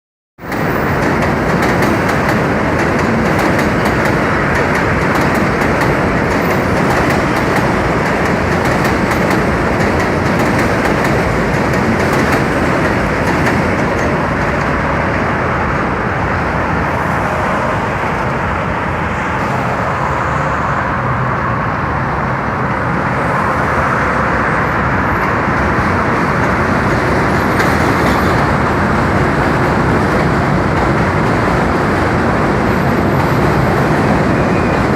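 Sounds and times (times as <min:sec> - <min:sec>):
subway train rumbling on rails: 0:00.4 - 0:34.9.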